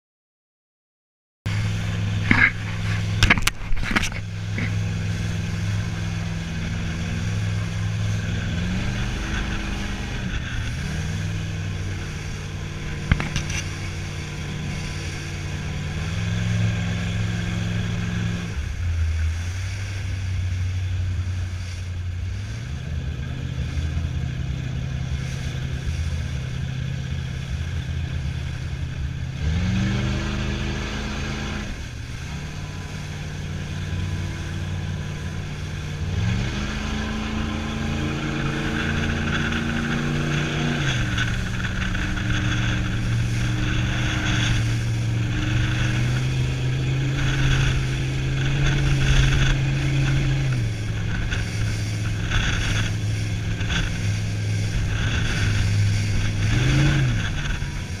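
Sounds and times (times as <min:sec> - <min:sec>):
motorboat engine humming: 0:01.5 - 0:58.0
wind and water hiss: 0:01.5 - 0:58.0.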